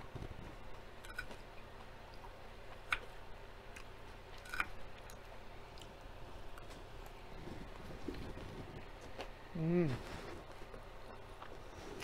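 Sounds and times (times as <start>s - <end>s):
person chewing crunchy salad: 1.0s - 12.0s.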